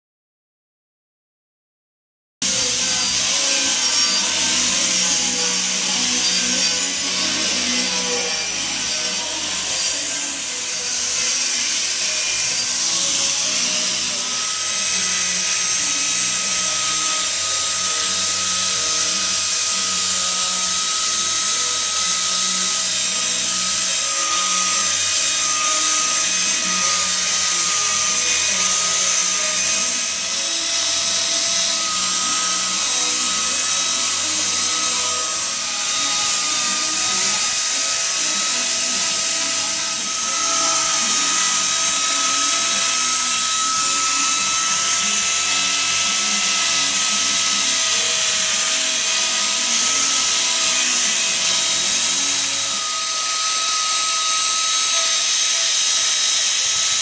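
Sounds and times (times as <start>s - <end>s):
angle grinder whining on wood: 2.4s - 57.0s.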